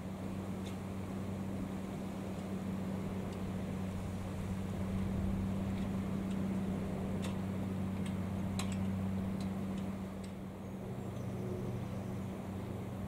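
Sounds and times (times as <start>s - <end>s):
boat engine droning: 0.0s - 13.0s
wind: 0.0s - 13.0s.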